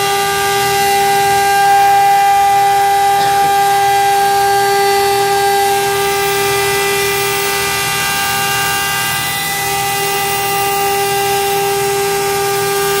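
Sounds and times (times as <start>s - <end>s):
router spindle high whine: 0.0s - 13.0s.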